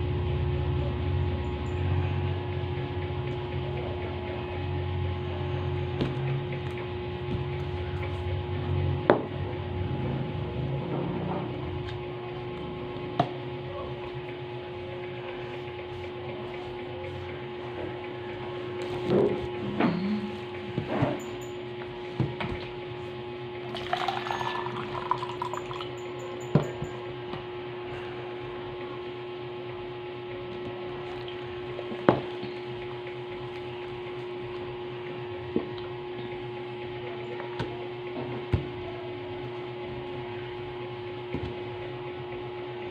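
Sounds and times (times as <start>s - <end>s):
steady hum: 0.0s - 42.9s.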